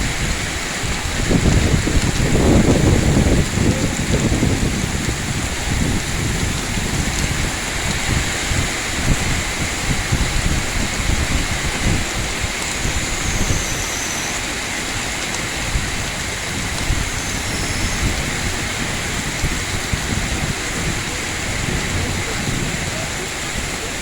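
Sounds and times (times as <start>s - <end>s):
heavy rain hissing: 0.0s - 24.0s
wind rumbling on microphone: 0.0s - 24.0s.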